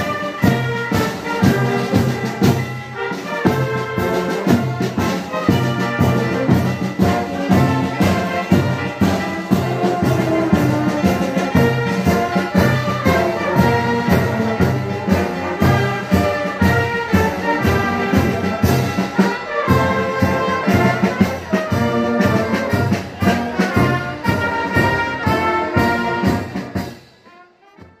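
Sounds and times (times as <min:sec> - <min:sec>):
brass band playing: 0:00.0 - 0:28.0.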